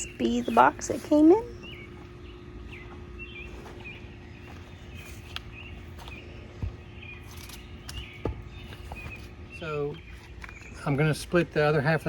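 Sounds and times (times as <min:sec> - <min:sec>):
small bird chirping: 0:00.0 - 0:11.0
faint steady hum: 0:00.0 - 0:12.0.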